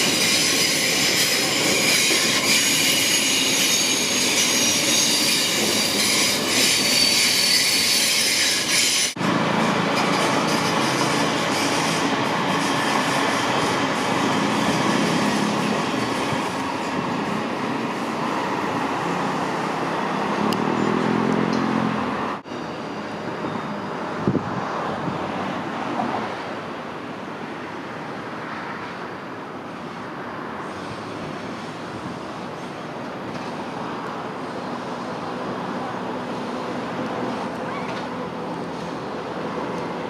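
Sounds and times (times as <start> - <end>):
passenger train rumbling past: 0.0 - 40.0
street and traffic noise: 0.0 - 40.0.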